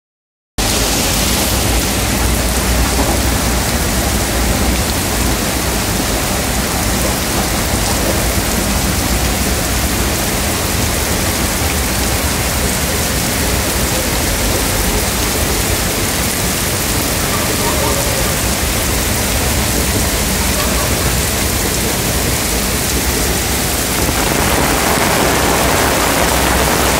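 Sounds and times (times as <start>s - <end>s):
heavy rain on pavement: 0.6s - 26.9s.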